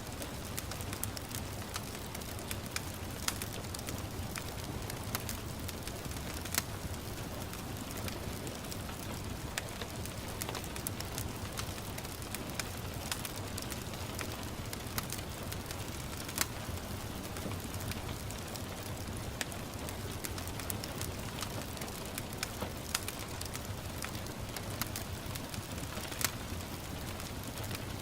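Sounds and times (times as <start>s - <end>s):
light rain pattering: 0.0s - 28.0s
wood fire crackling and popping: 0.0s - 28.0s.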